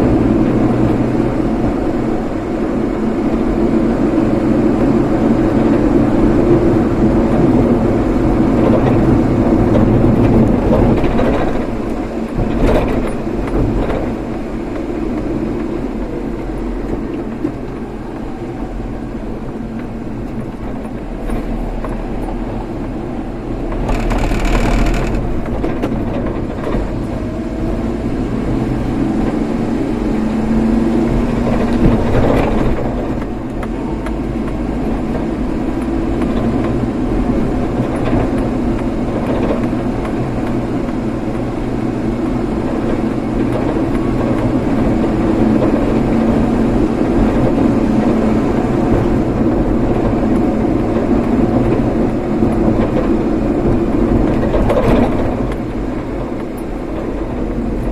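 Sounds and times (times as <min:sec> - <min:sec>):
car engine running: 0:00.0 - 0:57.9
road noise: 0:00.0 - 0:57.9.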